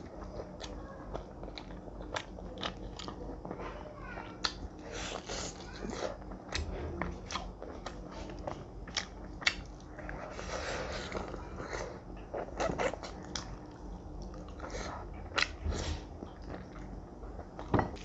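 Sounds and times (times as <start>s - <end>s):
person chewing food: 0.0s - 3.6s, 4.4s - 18.0s.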